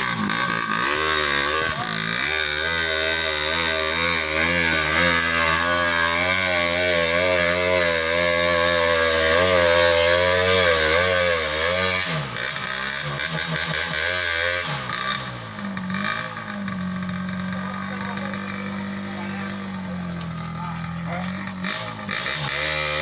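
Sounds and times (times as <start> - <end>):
small motorcycle engine labouring: 0.0 - 23.0.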